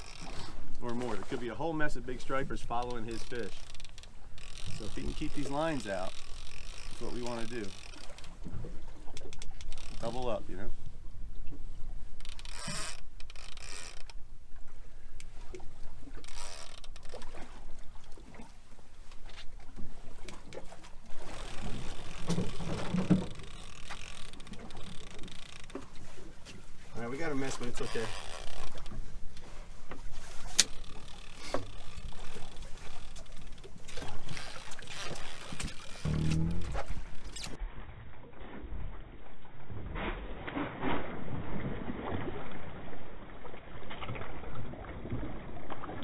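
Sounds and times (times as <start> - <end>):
wind and water rumble: 0.0 - 46.0.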